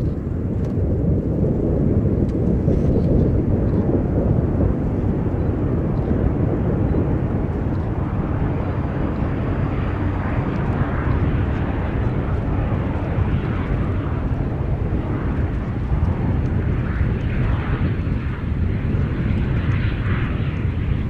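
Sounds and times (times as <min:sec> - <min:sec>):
turboprop airliner landing: 0:00.0 - 0:21.0.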